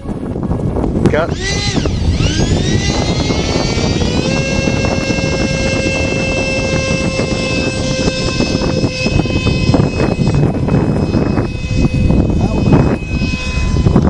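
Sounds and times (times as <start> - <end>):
model airplane motor whine: 0.0 - 14.0
wind buffeting microphone: 0.0 - 14.0.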